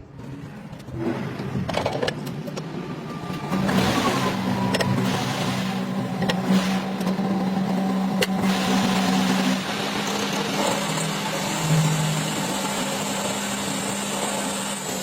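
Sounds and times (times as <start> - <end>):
excavator engine running: 2.1 - 15.0.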